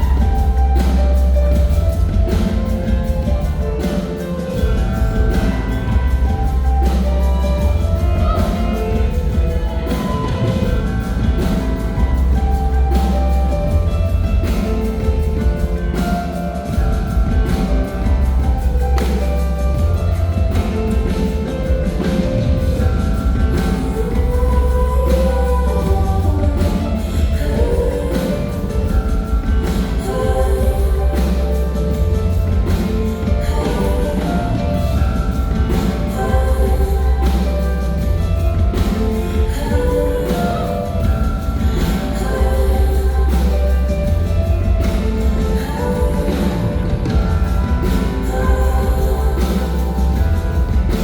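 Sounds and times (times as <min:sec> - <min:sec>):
heavy bass notes: 0:00.0 - 0:51.0
live band music with drums: 0:00.0 - 0:51.0.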